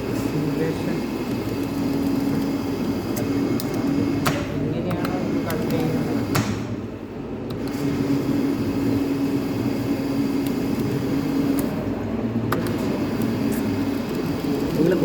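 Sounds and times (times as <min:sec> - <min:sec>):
lathe mechanical hum: 0:00.0 - 0:15.0.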